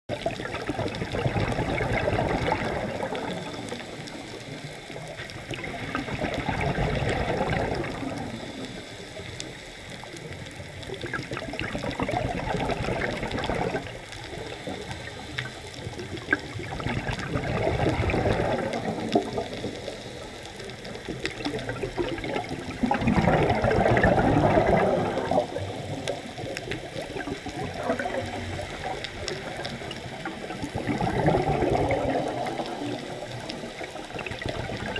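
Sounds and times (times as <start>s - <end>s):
underwater regulator bubbling: 0.1s - 34.9s.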